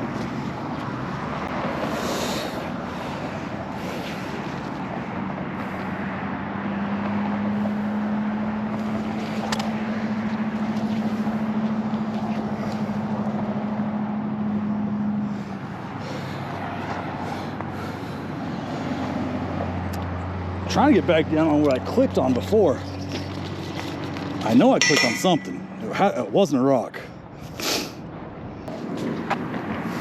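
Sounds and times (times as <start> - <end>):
road traffic on bridge: 0.0 - 30.0
vehicle low hum: 0.0 - 30.0.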